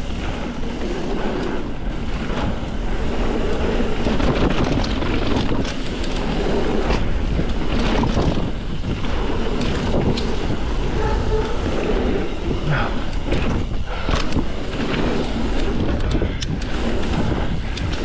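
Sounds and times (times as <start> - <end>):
bike tyres rolling on dirt: 0.0 - 18.0
wind on microphone: 0.0 - 18.0.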